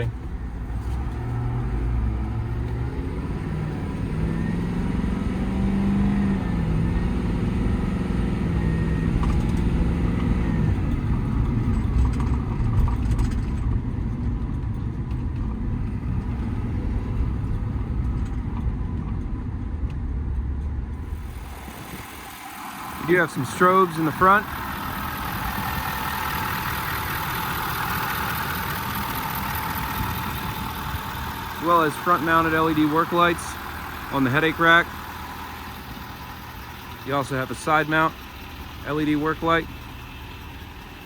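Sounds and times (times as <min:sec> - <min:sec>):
diesel truck engine accelerating: 0:00.0 - 0:41.0
road noise: 0:00.0 - 0:41.0.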